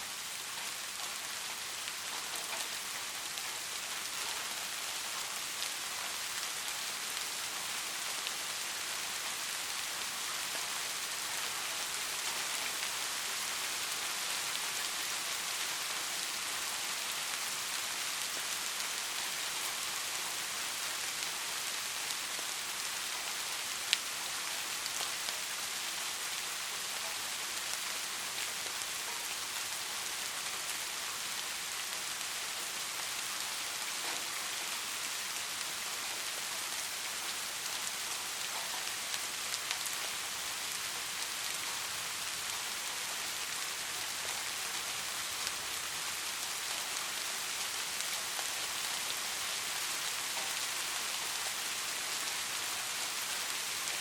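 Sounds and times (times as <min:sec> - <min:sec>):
soft rain hissing: 0:00.0 - 0:54.0.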